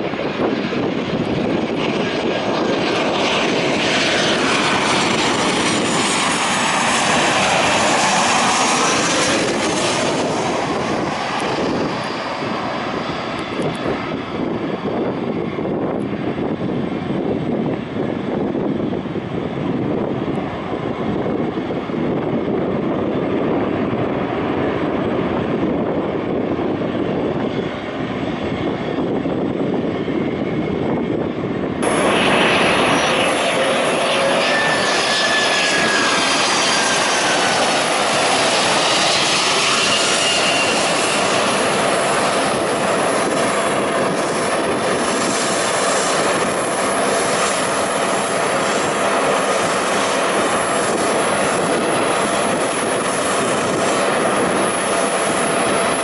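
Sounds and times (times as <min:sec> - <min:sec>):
airliner roaring on approach: 0:00.0 - 0:56.0
jet engines rumbling: 0:00.0 - 0:56.0.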